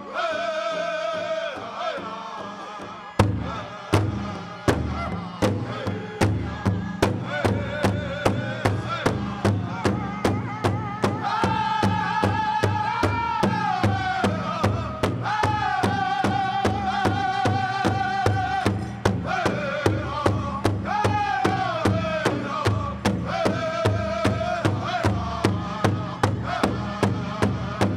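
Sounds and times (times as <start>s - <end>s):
group singing high-pitched lines: 0.0s - 27.9s
large drum beating: 2.4s - 27.9s.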